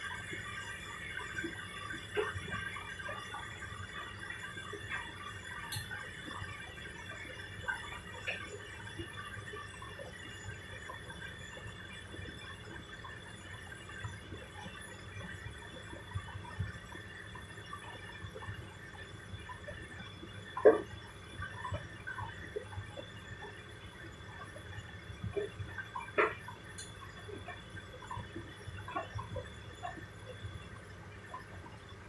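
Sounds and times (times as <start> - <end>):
faint water sounds: 0.0 - 32.0
washing machine humming: 0.0 - 32.0.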